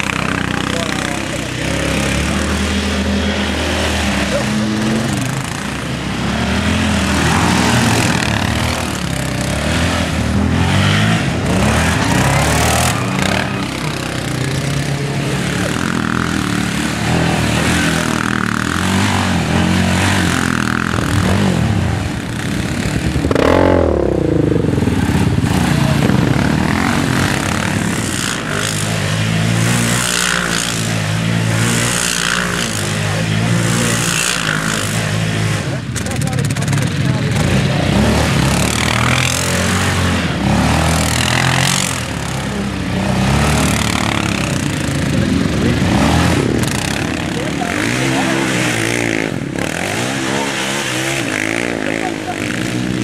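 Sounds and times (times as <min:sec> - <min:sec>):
quad engines revving: 0:00.0 - 0:53.0.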